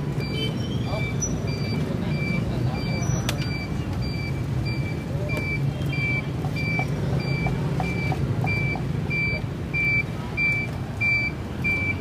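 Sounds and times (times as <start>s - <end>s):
street traffic rumble: 0.0s - 12.0s
electronic beeper beeping: 0.2s - 12.0s.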